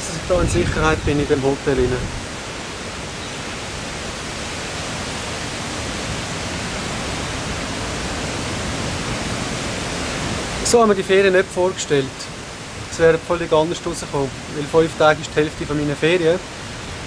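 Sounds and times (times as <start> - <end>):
heavy rain: 0.0 - 17.0
strong wind: 0.0 - 17.0.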